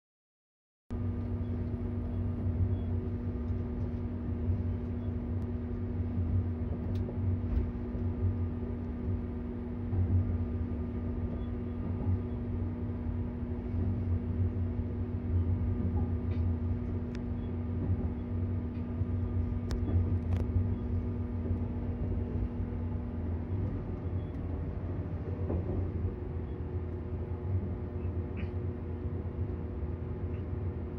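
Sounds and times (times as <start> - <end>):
train rumbling: 0.9 - 30.9.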